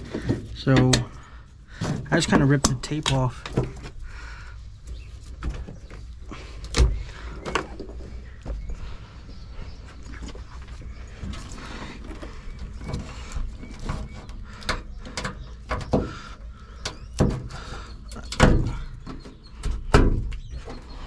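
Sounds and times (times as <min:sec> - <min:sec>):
clunks and knocks: 0:00.0 - 0:09.0, 0:10.1 - 0:21.0
wiring rustling: 0:00.0 - 0:20.6.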